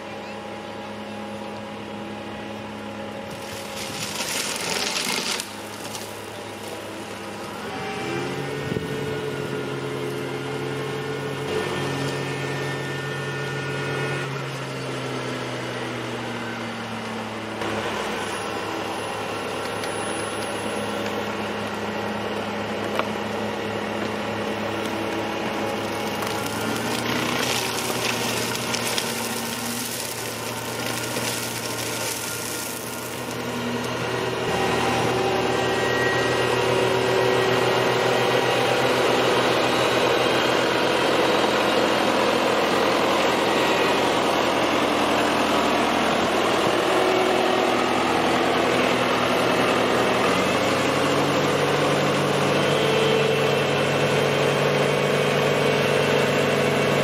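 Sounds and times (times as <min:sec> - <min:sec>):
flail mower running: 0:00.0 - 0:57.0
tractor diesel engine: 0:00.0 - 0:57.0.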